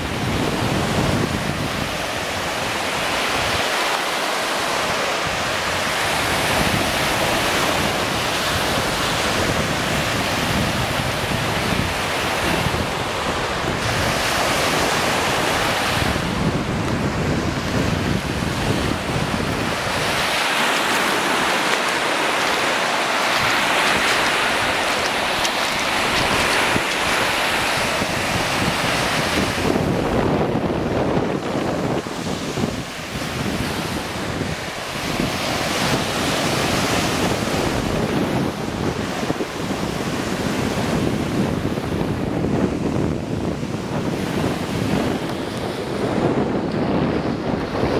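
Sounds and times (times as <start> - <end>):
small waves washing on shore: 0.0 - 47.9
wind buffeting microphone: 0.0 - 47.9.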